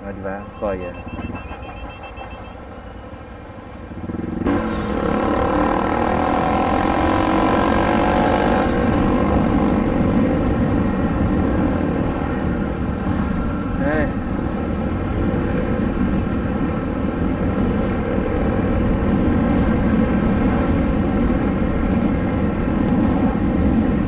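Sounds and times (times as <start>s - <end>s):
road noise: 0.0s - 24.0s
motorcycle engine: 1.0s - 24.0s
wind rushing over microphone: 3.8s - 24.0s.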